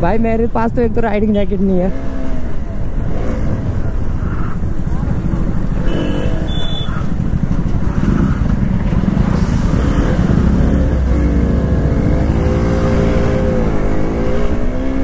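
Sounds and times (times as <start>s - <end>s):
motorcycle engine running: 2.3s - 15.0s.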